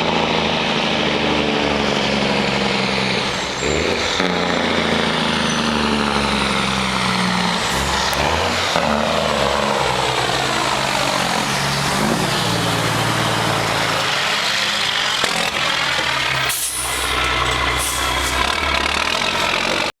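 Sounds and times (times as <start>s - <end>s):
loud diesel truck engine: 0.0s - 20.0s.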